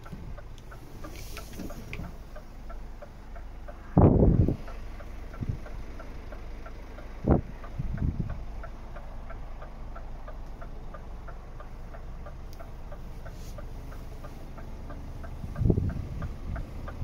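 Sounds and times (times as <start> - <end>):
truck engine idling hum: 0.0 - 17.0.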